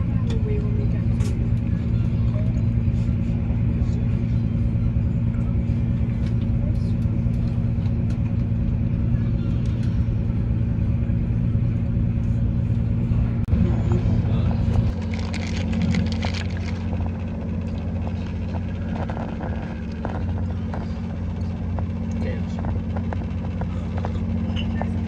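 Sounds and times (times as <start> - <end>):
train engine drone inside carriage: 0.0 - 25.0.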